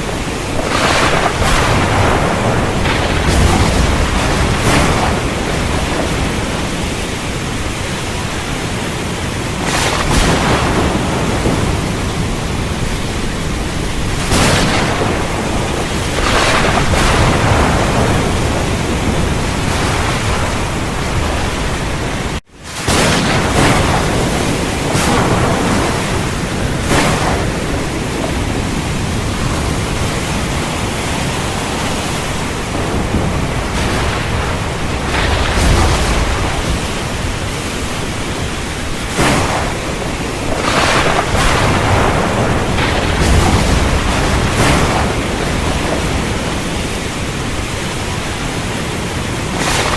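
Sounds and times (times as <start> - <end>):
heavy rain falling: 0.0 - 49.9
thunder rumbling: 0.0 - 49.9.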